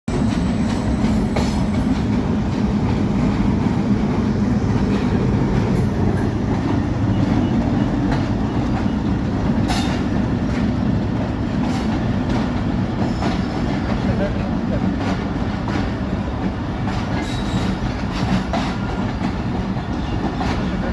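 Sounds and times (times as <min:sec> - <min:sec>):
train rumbling along track: 0:00.1 - 0:20.9
wheels clacking over rail joints: 0:00.1 - 0:20.9.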